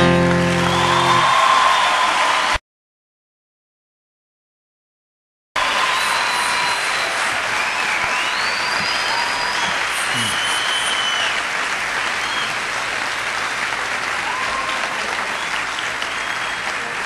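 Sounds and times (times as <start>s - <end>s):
audience applauding: 0.0s - 2.6s, 5.6s - 17.0s.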